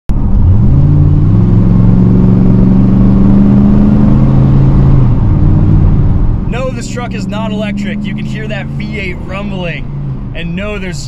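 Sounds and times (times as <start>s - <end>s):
truck engine rumbling: 0.1s - 11.0s.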